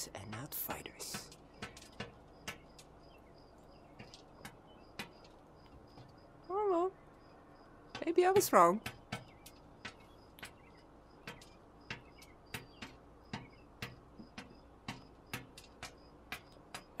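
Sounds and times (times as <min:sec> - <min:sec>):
beak tapping on glass: 0:00.0 - 0:03.2, 0:03.9 - 0:06.3, 0:07.9 - 0:17.0.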